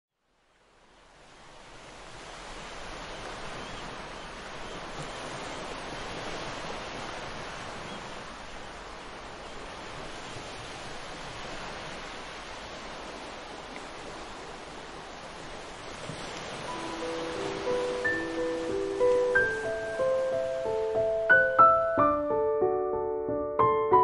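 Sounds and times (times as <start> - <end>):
ocean waves washing: 0.4 - 24.0.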